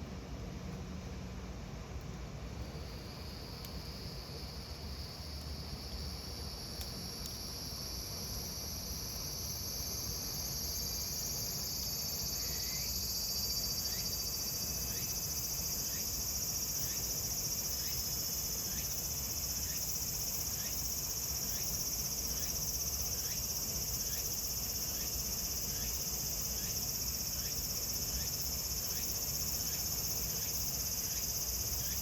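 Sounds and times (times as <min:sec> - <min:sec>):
cicadas buzzing: 0:02.6 - 0:32.0.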